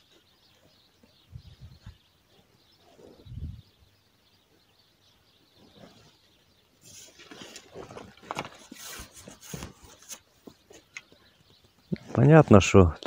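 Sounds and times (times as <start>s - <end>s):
faint bird chirps: 0.0s - 12.7s.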